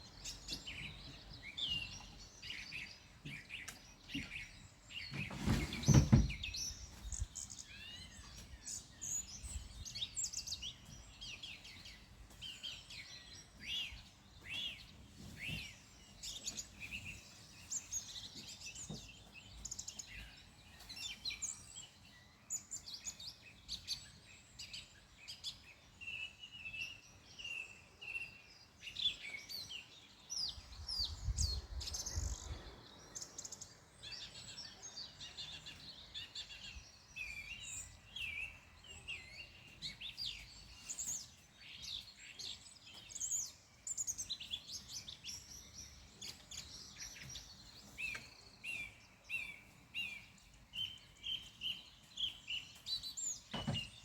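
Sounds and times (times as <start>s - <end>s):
wild birds singing: 0.0s - 54.0s.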